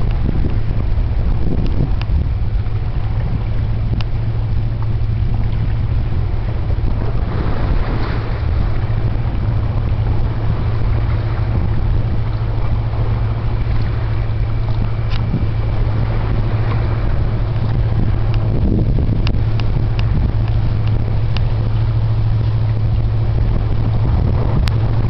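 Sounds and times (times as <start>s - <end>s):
boat engine drone: 0.0s - 25.0s
wind noise on microphone: 0.0s - 25.0s.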